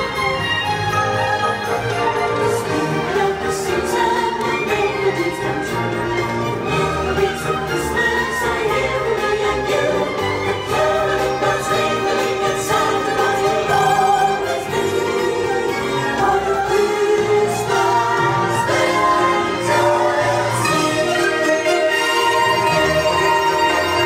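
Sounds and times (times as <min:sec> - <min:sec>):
choir singing: 0:00.0 - 0:24.0
orchestral strings: 0:00.0 - 0:24.0.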